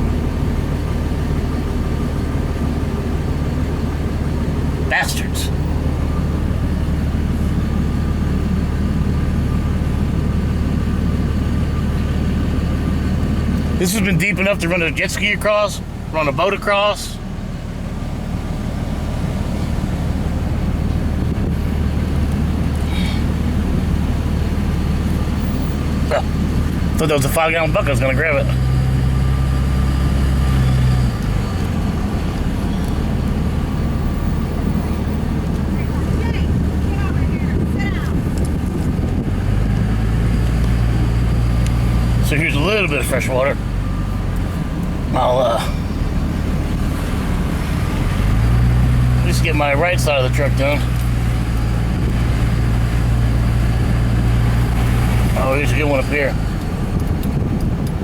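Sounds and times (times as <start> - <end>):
road noise: 0.0 - 58.0
truck engine running: 0.0 - 58.0.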